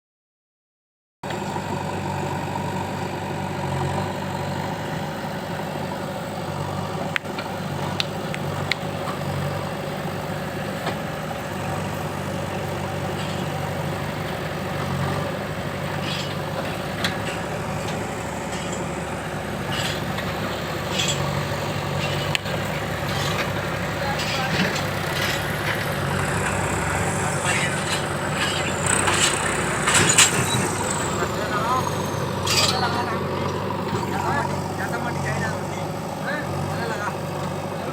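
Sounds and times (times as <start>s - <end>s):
diesel engine running: 1.2s - 37.9s.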